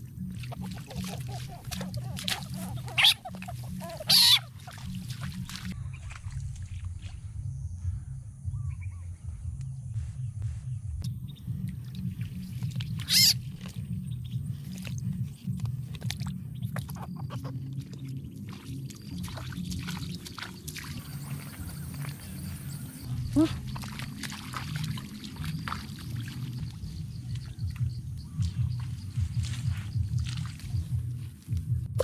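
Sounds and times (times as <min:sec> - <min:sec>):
frogs croaking: 0:00.0 - 0:06.0, 0:11.1 - 0:31.8.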